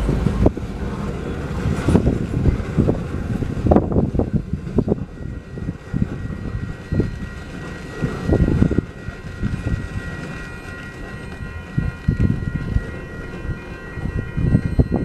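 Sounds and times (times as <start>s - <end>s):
train wheels clattering over rails: 0.0s - 14.2s
low train rumble: 0.0s - 15.0s
steady high ringing tone: 0.0s - 15.0s.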